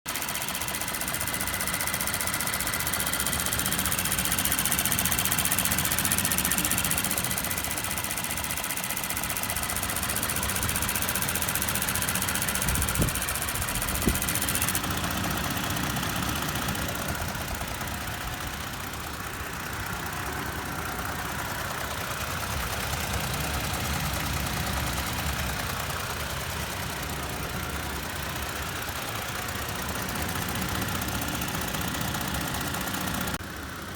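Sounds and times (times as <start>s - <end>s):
engine clicking noise: 0.0s - 33.9s
truck engine running: 0.1s - 33.9s.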